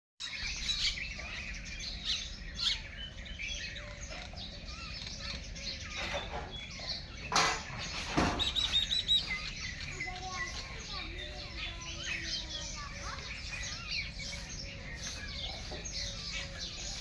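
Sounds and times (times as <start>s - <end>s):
high bird chirps: 0.2s - 17.0s.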